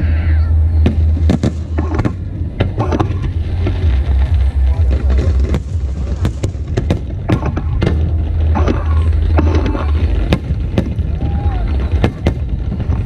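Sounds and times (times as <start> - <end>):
low rumble: 0.0 - 13.0
fireworks bangs: 0.6 - 13.0.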